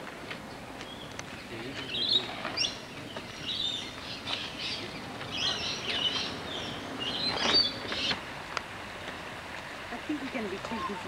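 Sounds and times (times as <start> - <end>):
birds chirping and twittering: 0.2 - 11.0.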